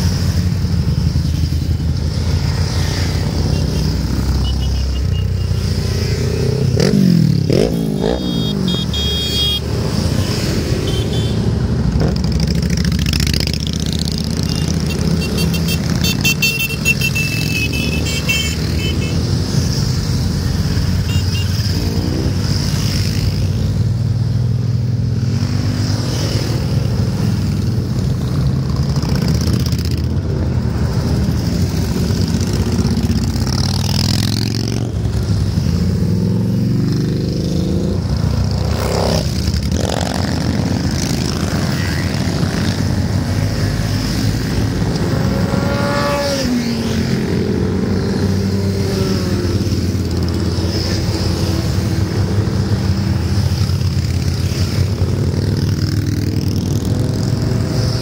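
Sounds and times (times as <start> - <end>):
motorcycle engines rumbling past: 0.0 - 58.0.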